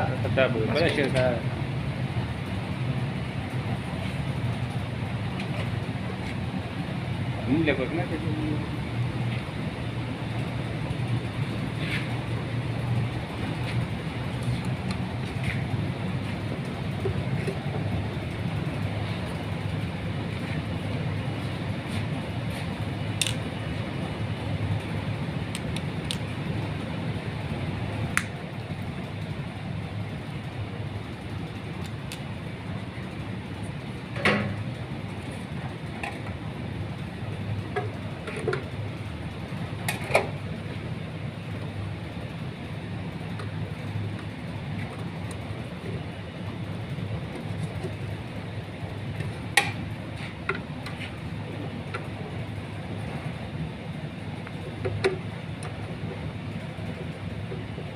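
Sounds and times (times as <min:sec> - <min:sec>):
low machinery rumble: 0:00.0 - 0:57.9.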